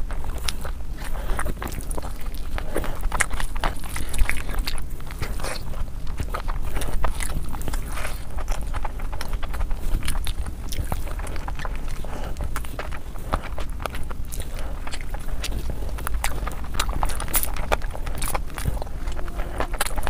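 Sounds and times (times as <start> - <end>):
steady low hum: 0.0 - 20.0
wet chewing and mouth smacking: 0.0 - 20.0.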